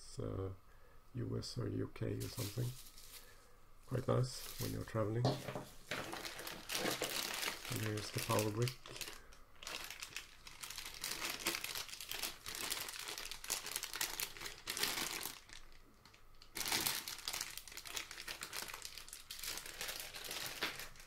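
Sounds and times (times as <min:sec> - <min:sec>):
plastic bag crinkling: 0:02.2 - 0:21.0.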